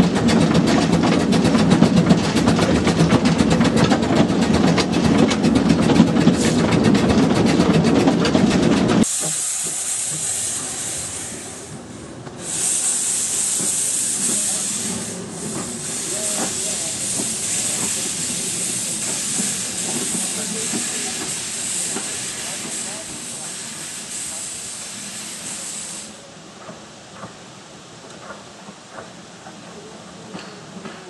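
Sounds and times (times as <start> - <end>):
steam train rumble and clatter: 0.0 - 31.0
locomotive venting steam hiss: 0.1 - 31.0.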